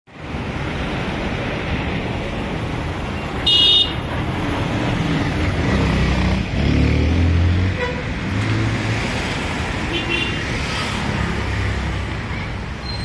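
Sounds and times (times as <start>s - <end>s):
road traffic rumble: 0.1s - 13.0s.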